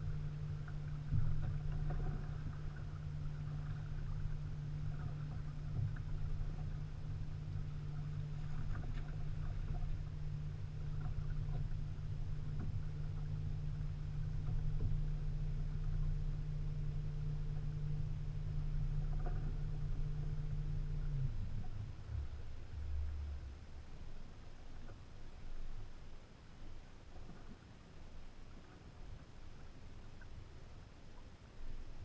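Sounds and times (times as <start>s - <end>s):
boat motor humming: 0.0s - 32.0s.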